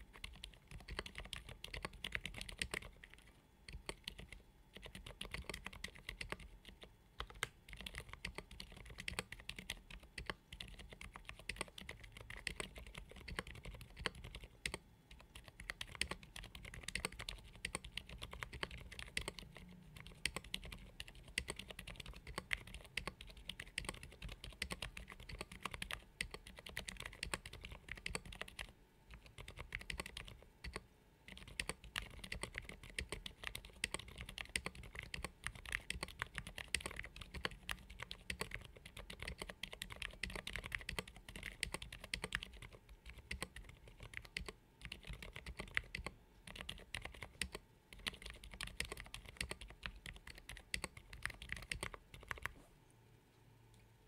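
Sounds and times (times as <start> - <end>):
fast typing on mechanical keyboard: 0.0 - 52.6.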